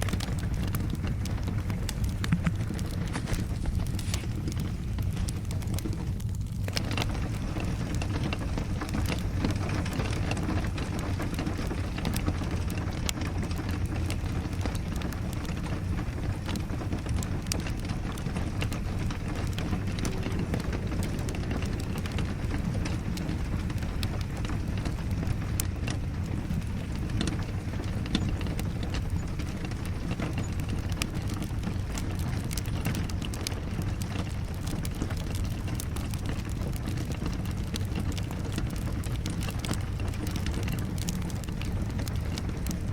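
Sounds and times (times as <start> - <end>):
steady rain: 0.0 - 42.9
wood fire crackling: 0.0 - 42.9.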